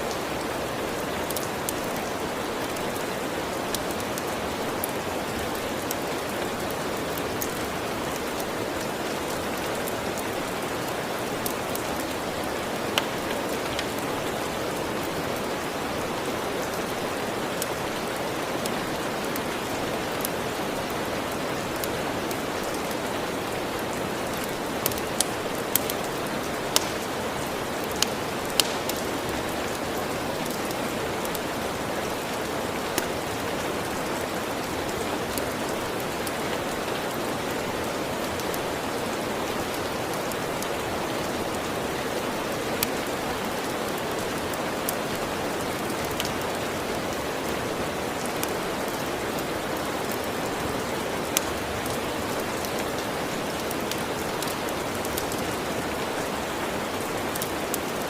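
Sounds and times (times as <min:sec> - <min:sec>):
steady rain falling: 0:00.0 - 0:58.0
wood fire crackles: 0:00.0 - 0:58.0.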